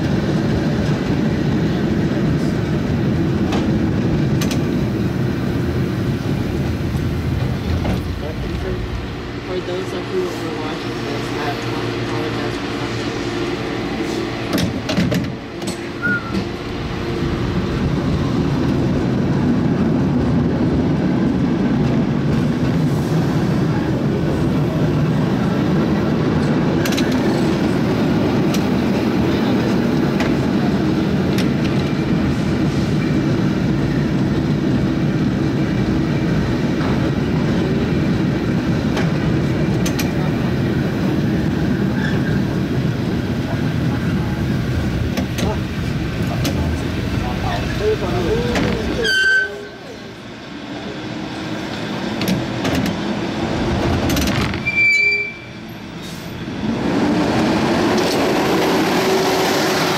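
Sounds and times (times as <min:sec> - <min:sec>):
cable car rumbling on rails: 0:00.0 - 0:59.9.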